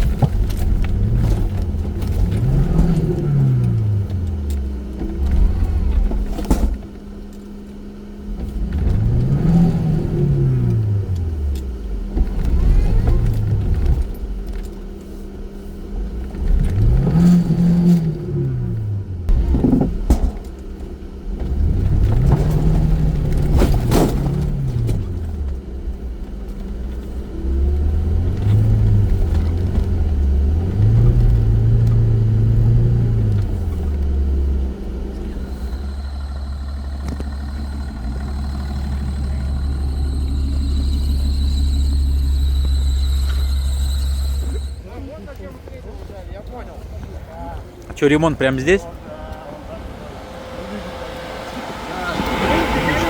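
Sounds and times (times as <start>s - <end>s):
vehicle engine revving: 0.0s - 44.9s, 46.8s - 53.0s.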